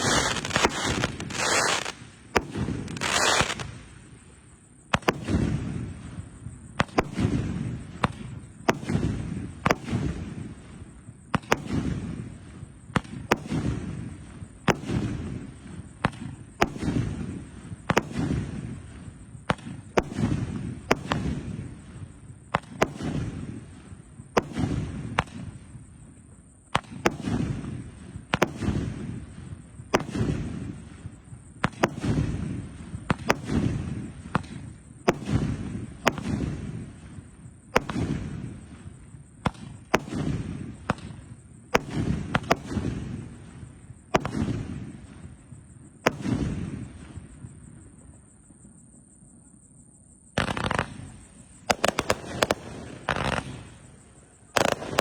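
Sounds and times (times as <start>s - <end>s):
fireworks bangs: 0.0s - 4.2s, 4.9s - 10.8s, 11.4s - 25.7s, 26.8s - 47.5s, 50.4s - 55.0s.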